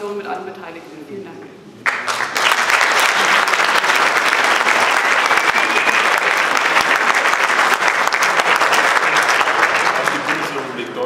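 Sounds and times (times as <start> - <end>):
crowd applauding: 1.8 - 11.0.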